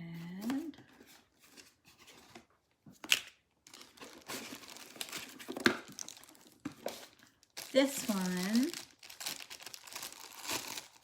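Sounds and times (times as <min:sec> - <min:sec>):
packaging crinkling and rustling: 0:00.4 - 0:11.0.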